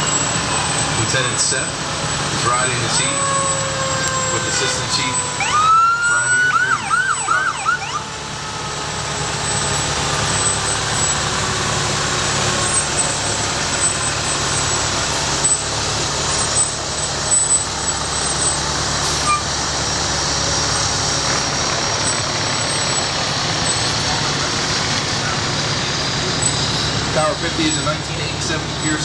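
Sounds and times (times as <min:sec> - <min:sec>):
fire truck engine rumble: 0:00.0 - 0:29.0.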